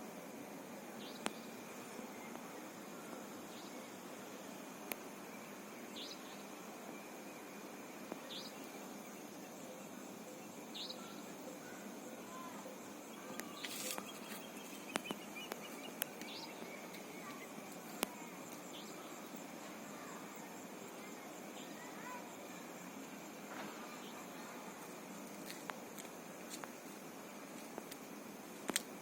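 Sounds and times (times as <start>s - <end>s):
insects trilling: 0.0s - 29.0s
rustle: 0.0s - 29.0s.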